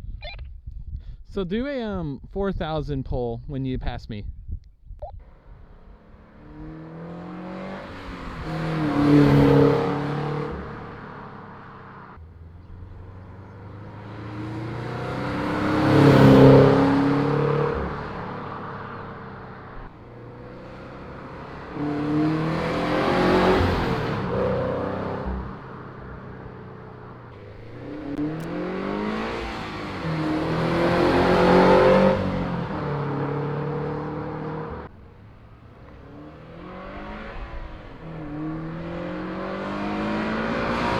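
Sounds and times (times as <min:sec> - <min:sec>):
car engine revving: 0:05.2 - 0:40.9.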